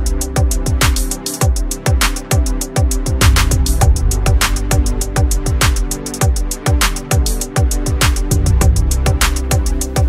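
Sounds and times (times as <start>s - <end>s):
electronic music with fast beat: 0.0s - 10.0s.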